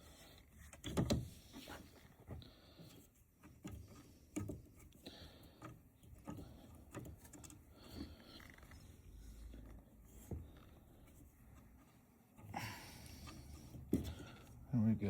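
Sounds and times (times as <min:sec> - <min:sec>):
faint clicks and light knocks: 0:00.1 - 0:12.5.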